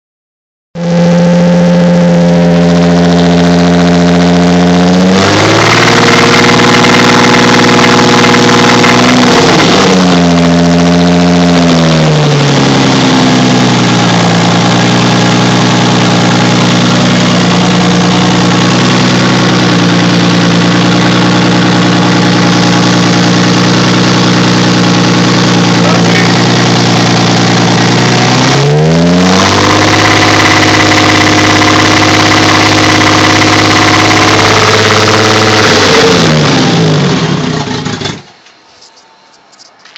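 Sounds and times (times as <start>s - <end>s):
car engine revving: 0.8s - 38.8s.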